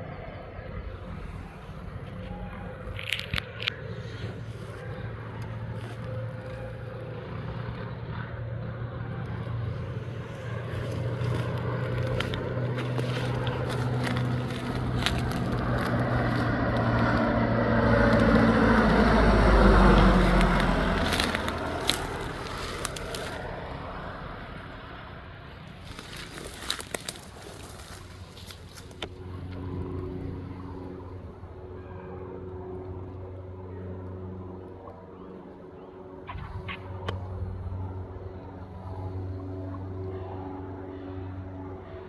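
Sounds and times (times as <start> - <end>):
propeller plane engine droning: 0.0 - 42.0.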